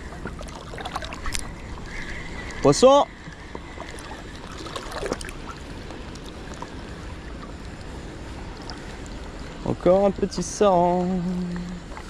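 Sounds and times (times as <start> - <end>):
water lapping and sloshing: 0.0 - 12.0.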